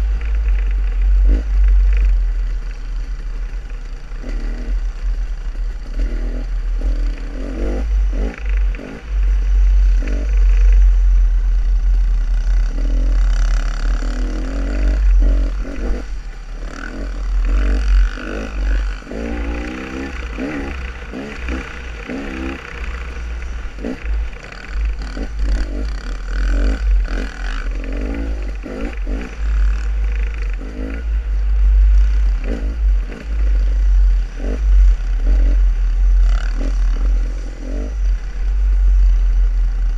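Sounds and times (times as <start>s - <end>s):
dirt bike engine revving: 0.0s - 2.2s, 3.9s - 39.9s.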